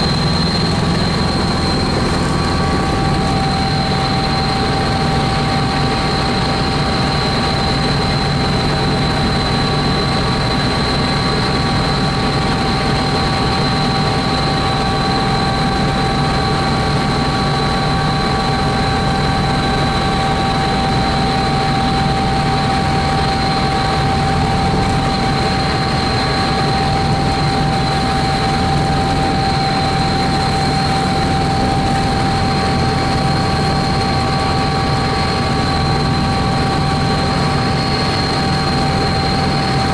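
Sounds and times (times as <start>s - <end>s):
helicopter engine and rotor: 0.0s - 39.9s
high whine: 0.0s - 39.9s.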